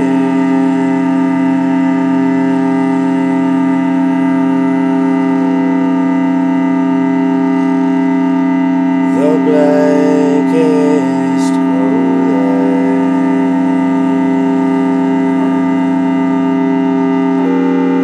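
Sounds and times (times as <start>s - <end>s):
electronic keyboard chord drone: 0.0s - 18.0s
higher tone sliding up: 0.0s - 18.0s.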